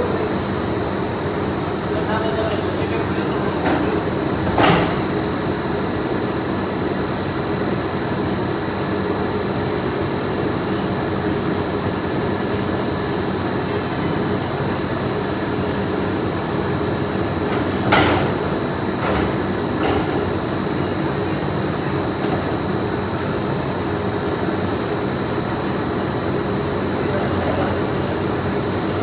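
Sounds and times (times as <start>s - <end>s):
factory machinery din: 0.0s - 29.0s
high machine whine: 0.0s - 29.0s.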